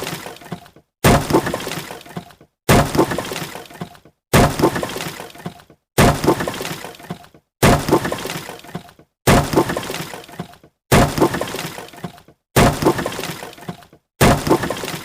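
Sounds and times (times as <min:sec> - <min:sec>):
wood breaking: 0:00.0 - 0:15.0.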